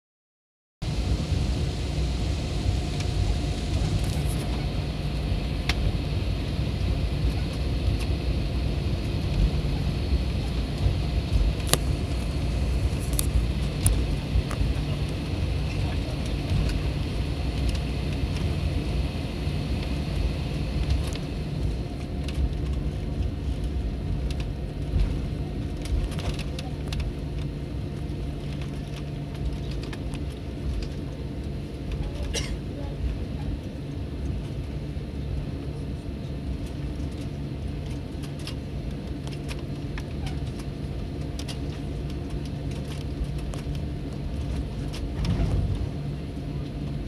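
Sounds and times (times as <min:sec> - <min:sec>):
faint steady whine: 0:00.8 - 0:47.0
jet engines idling rumble: 0:00.8 - 0:47.0.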